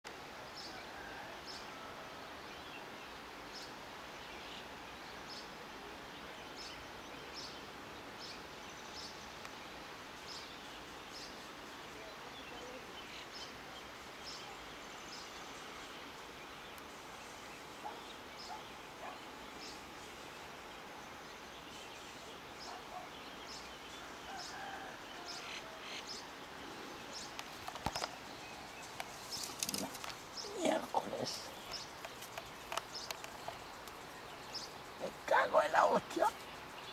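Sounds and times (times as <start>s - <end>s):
steady background hiss: 0.1s - 36.9s
birds chirping: 0.5s - 36.9s.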